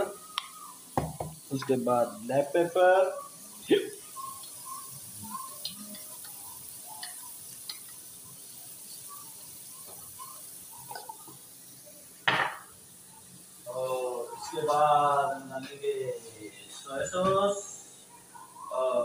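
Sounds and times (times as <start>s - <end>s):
chicken sizzling in pan: 0.0s - 19.0s.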